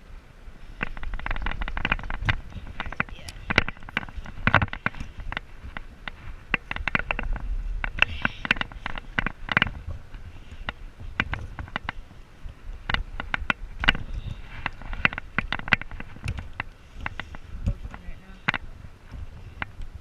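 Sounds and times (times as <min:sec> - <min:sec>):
low rumble: 0:00.8 - 0:20.0.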